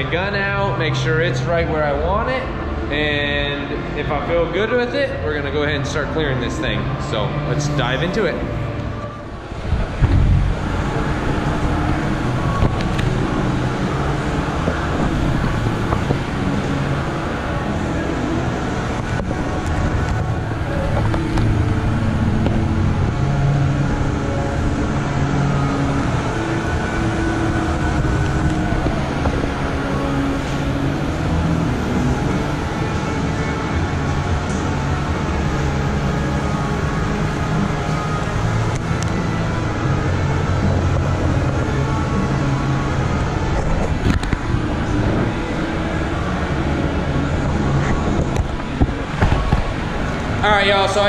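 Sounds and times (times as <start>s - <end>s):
low drone: 0.0s - 51.0s.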